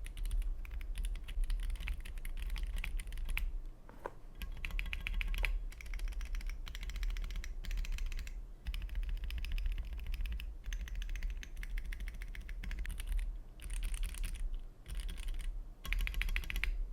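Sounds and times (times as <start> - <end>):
fast typing on mechanical keyboard: 0.0 - 3.5, 4.4 - 16.8.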